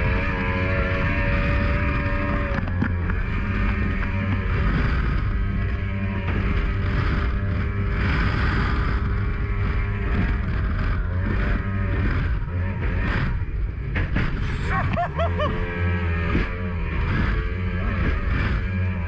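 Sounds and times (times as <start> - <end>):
outboard motor running fast: 0.0 - 19.0
wind noise: 0.0 - 19.0.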